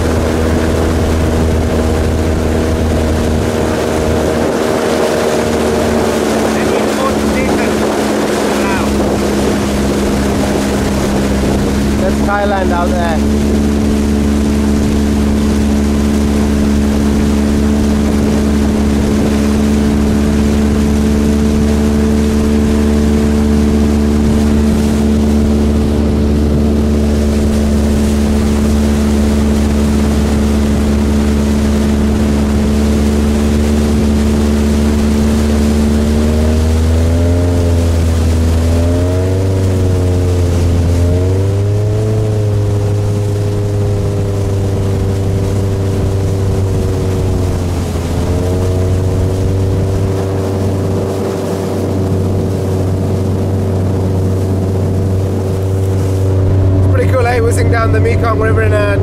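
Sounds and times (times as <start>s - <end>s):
constant rushing noise: 0.0s - 59.0s
speedboat engine running: 0.0s - 59.0s.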